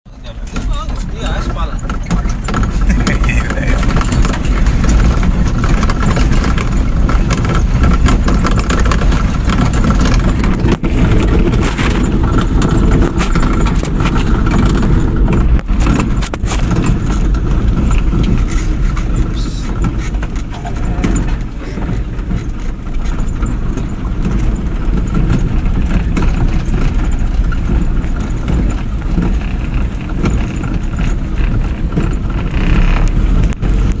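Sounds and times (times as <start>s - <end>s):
truck engine rumbling: 0.1s - 34.0s
knocks and rattles: 0.2s - 34.0s.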